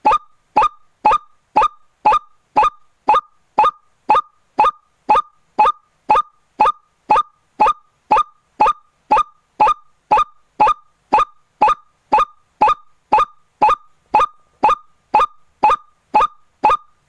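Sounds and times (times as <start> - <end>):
waterhen nasal croaking call: 0.0 - 17.0.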